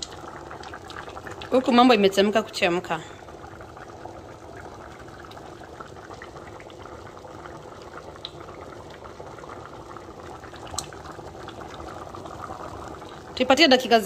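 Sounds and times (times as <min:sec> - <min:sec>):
stew bubbling at a boil: 0:00.0 - 0:14.0.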